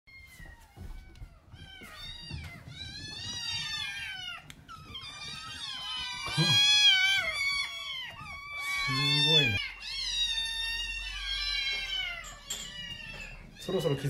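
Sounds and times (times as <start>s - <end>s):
kittens meowing: 0.1s - 14.0s.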